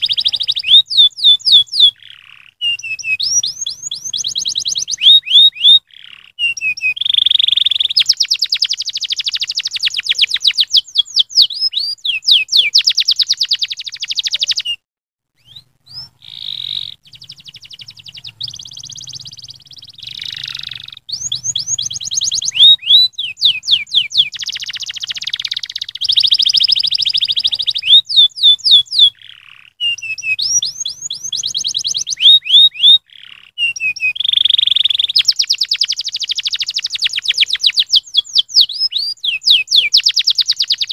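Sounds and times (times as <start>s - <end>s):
canary singing trills: 0.0s - 14.8s, 15.4s - 40.9s.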